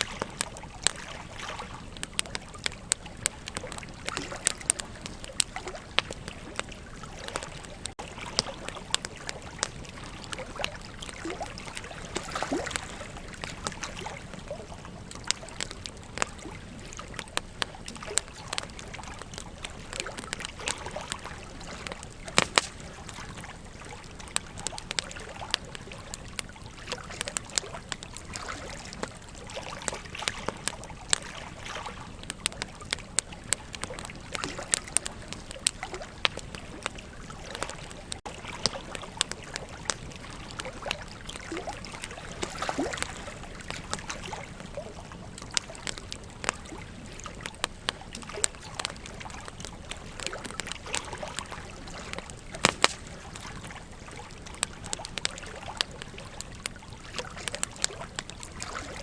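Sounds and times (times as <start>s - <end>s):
river water flowing: 0.0s - 32.1s, 35.8s - 59.0s
campfire crackling and popping: 0.0s - 59.0s.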